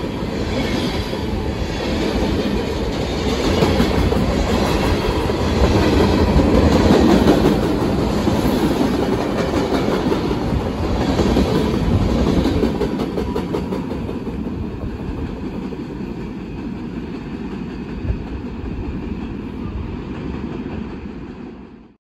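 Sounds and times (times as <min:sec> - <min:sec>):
train wheels clacking over rails: 0:00.0 - 0:21.6.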